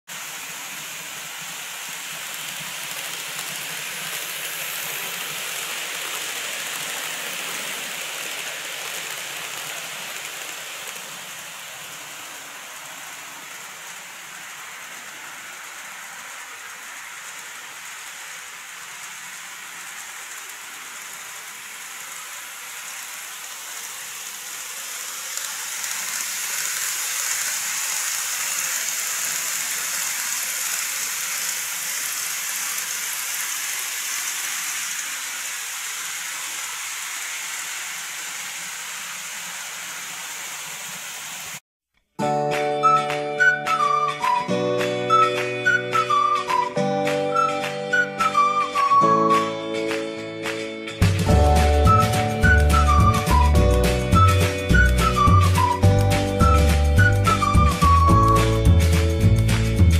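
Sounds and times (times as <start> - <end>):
model train wheels hissing on rail: 0.1 - 41.6, 51.0 - 59.7.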